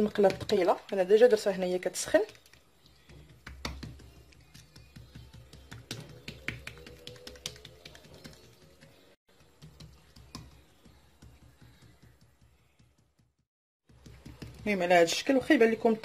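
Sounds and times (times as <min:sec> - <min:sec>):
hands patting dough on tiles: 0:00.0 - 0:15.6.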